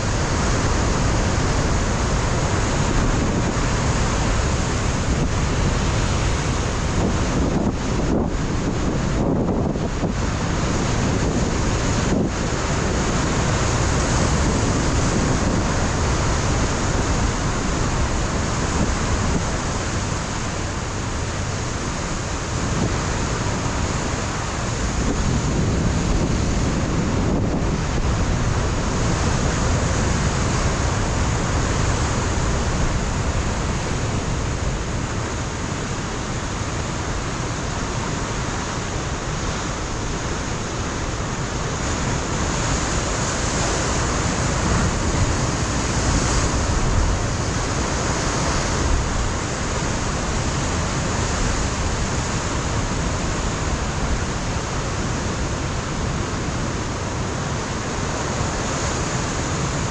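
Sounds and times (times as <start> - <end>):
surf breaking on rocks: 0.0 - 59.9
wind on microphone: 0.0 - 59.9.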